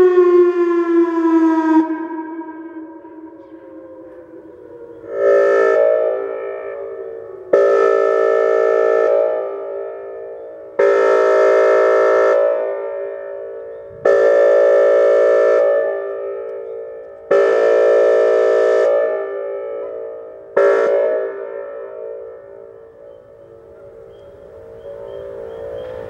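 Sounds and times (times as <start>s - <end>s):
electronic siren chord blasts: 0.0s - 26.0s.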